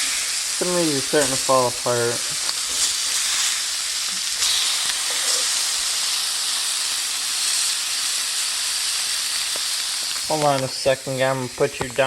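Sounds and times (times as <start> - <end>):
patties sizzling in a skillet: 0.0 - 12.0.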